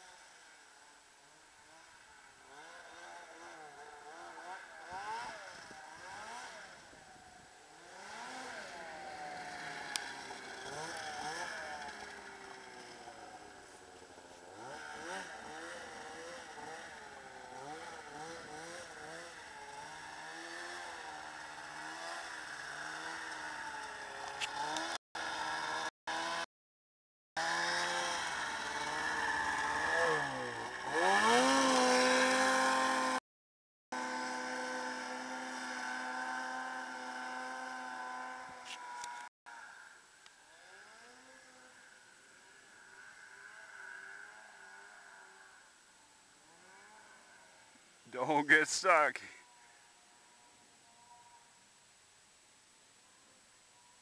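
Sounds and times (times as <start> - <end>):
snowmobile engine revving: 1.6 - 26.5, 27.4 - 33.2, 34.0 - 49.8.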